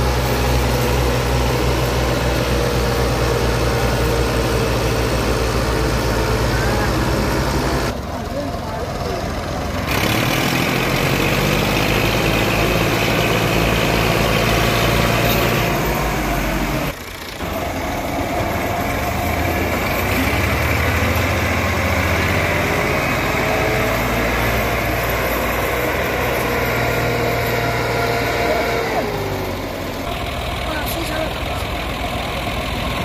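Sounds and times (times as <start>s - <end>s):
diesel tractor engines running: 0.0s - 33.0s.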